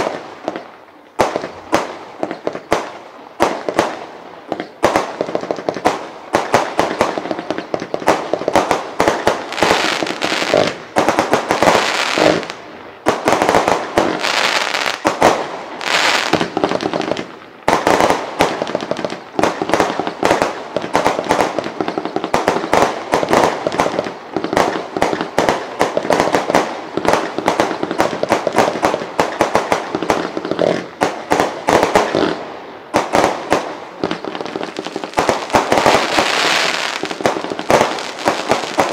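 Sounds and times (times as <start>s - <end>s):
firework cake bangs and crackling: 0.0s - 38.9s.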